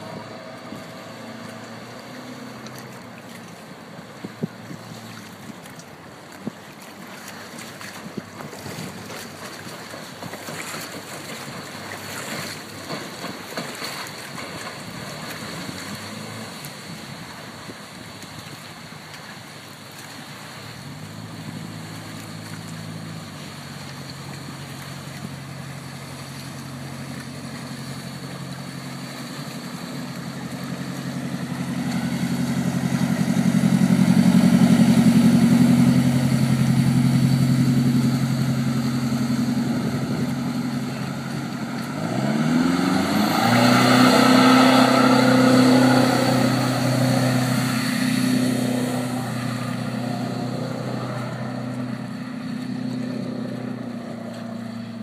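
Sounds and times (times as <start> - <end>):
boat engine: 0.0 - 55.0
wind: 0.0 - 55.0.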